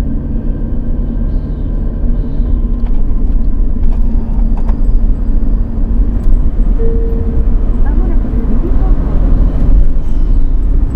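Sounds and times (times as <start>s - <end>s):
car engine running steadily: 0.0s - 10.9s.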